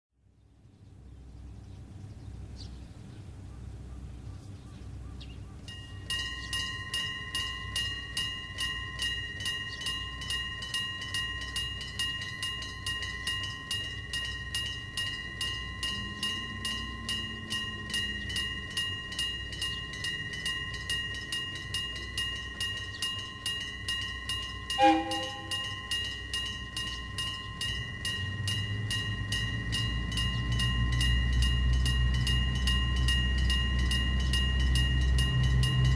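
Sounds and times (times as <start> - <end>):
level-crossing bell clanging: 5.7 - 35.9.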